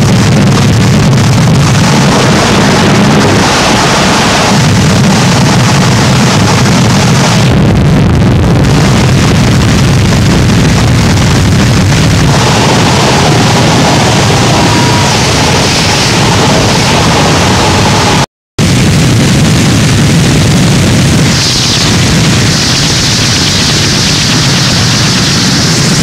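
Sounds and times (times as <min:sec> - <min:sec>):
harsh wall of static: 0:00.0 - 0:26.0
heavy low rumble: 0:00.0 - 0:26.0.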